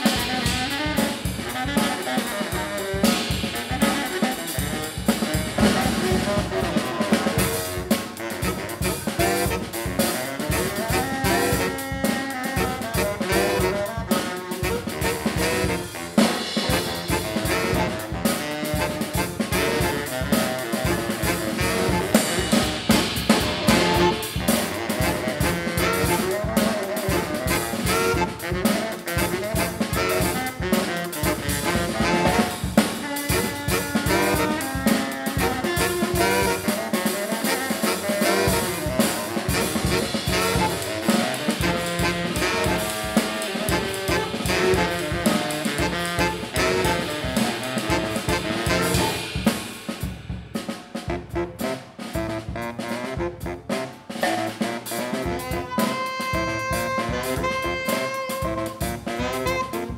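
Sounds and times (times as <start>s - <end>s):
drum kit beat: 0.0s - 59.9s
saxophone ensemble playing jazz-funk: 0.0s - 59.9s.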